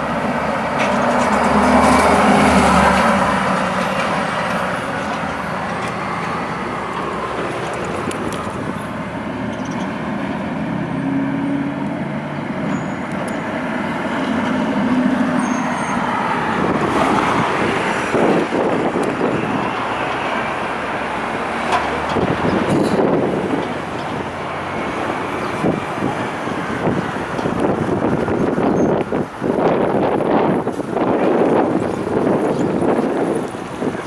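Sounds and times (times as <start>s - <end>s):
heavy vehicle engine hum: 0.0s - 34.0s
passing cars: 0.0s - 34.0s.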